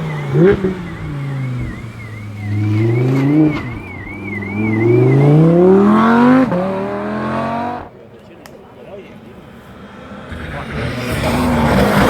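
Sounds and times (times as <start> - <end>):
car engine accelerating through gears: 0.0 - 8.0, 9.2 - 12.0.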